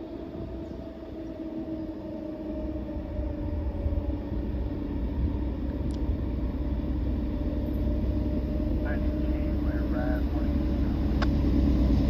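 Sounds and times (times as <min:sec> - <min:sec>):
locomotive engine drone: 0:00.0 - 0:12.0
low rumble: 0:00.0 - 0:12.0.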